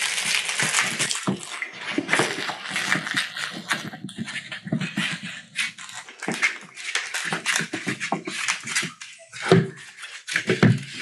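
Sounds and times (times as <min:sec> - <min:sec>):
puppies scuffling on hard floor: 0:00.0 - 0:11.0.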